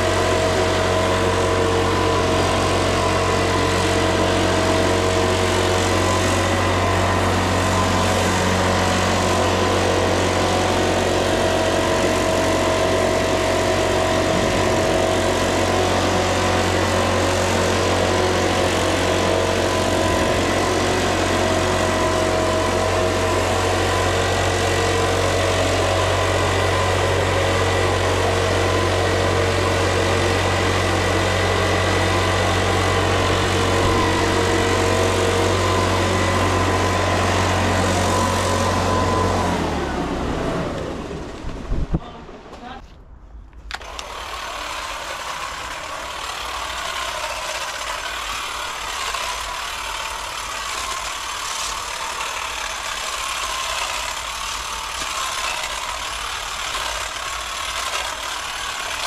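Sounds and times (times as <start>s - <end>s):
leaf blower engine running: 0.0s - 42.5s, 43.7s - 59.0s.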